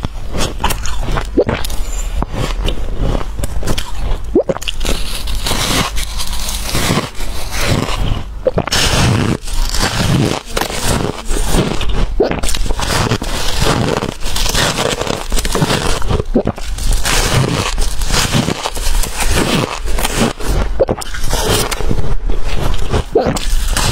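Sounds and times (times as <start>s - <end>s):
chewing crunchy frost: 0.0s - 23.9s.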